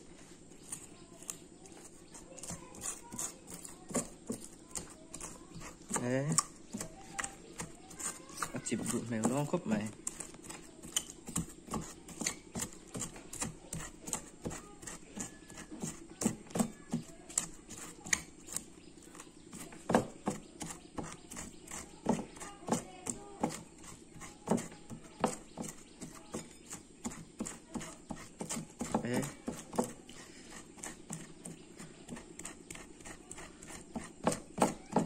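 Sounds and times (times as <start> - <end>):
gritty scrape of salt: 0.0 - 35.0.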